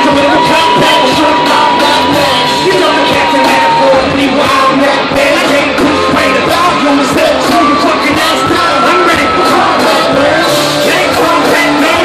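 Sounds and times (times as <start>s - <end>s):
rock music over stadium speakers: 0.0s - 12.0s.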